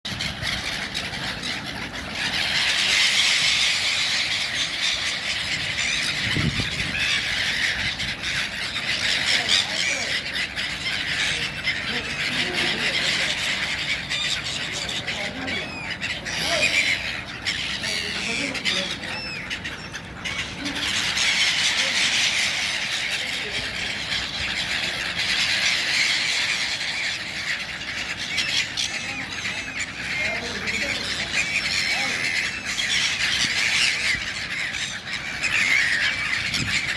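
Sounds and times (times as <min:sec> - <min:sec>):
flock of birds chirping: 0:00.0 - 0:36.9.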